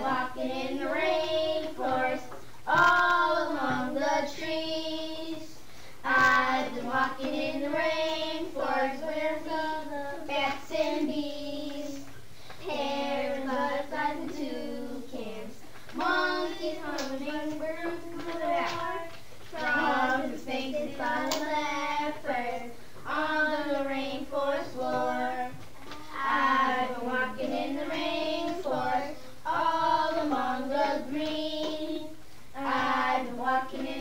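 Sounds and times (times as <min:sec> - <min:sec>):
child singing: 0:00.0 - 0:34.0.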